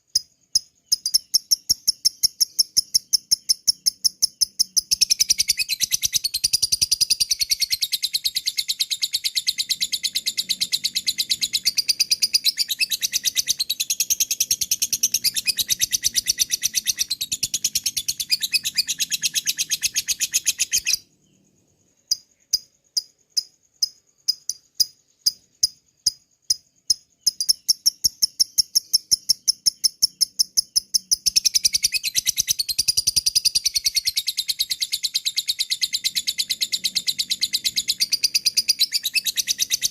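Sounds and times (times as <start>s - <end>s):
lovebird chattering: 0.8s - 21.0s, 26.9s - 39.9s.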